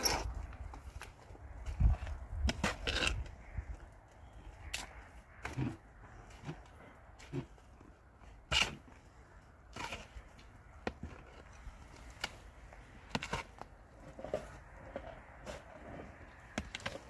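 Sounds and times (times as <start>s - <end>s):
shovel scraping soil in wheelbarrow: 0.0s - 3.3s, 5.4s - 10.4s, 11.0s - 17.0s.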